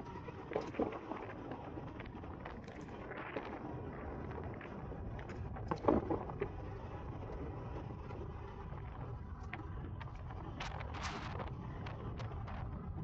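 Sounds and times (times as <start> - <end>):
bicycle tyre and wind rumble: 0.0 - 13.0.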